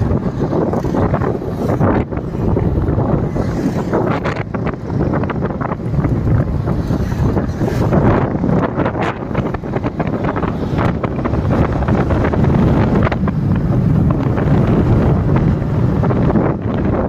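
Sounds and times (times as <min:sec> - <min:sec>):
road and vehicle noise: 0:00.0 - 0:17.0
wind buffeting microphone: 0:00.0 - 0:17.0.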